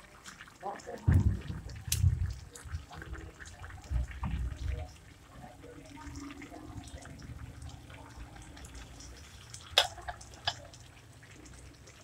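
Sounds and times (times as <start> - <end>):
stew bubbling and popping: 0.0 - 12.0.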